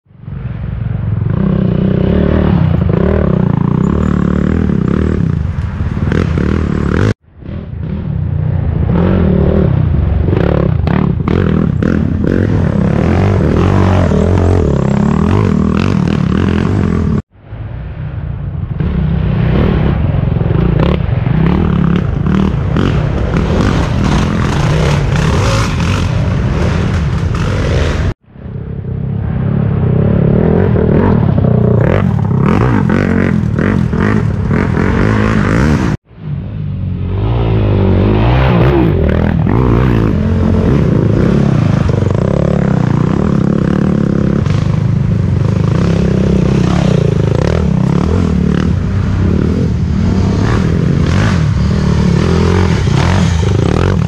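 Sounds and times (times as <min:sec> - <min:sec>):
quad engines running hard: 0:01.1 - 0:17.2, 0:18.8 - 0:36.0, 0:37.1 - 0:54.0.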